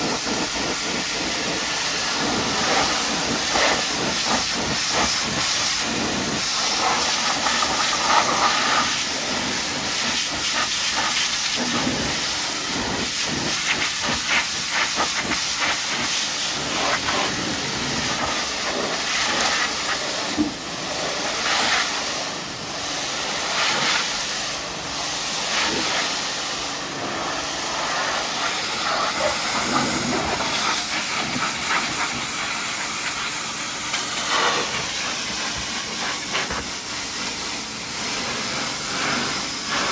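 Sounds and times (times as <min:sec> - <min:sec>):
pressure washer jet hissing: 0:00.0 - 0:39.9.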